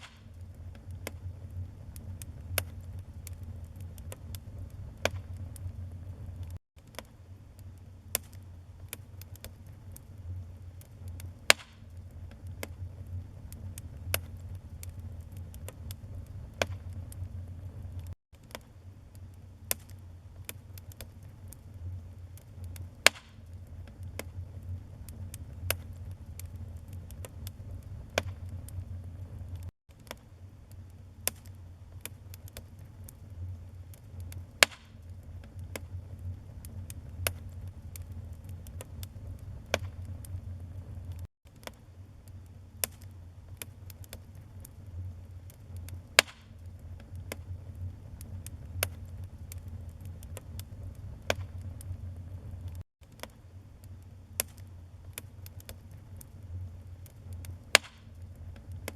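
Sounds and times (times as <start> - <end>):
low steady rumble: 0.0 - 58.9
wood fire crackling and popping: 0.0 - 58.9.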